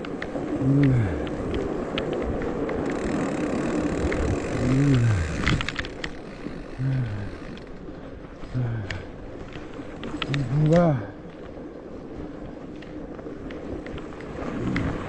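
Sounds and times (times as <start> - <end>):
bike tyres on snow: 0.0 - 15.0.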